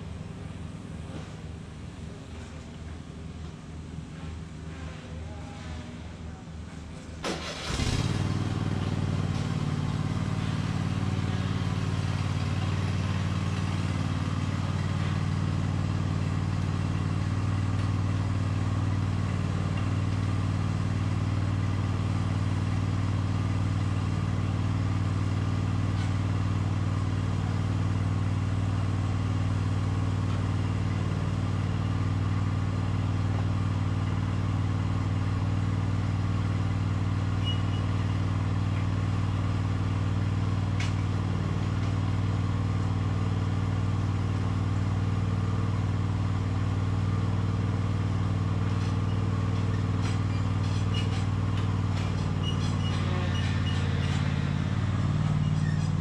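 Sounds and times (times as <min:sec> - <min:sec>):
lawn mower engine running: 0:07.0 - 0:56.0.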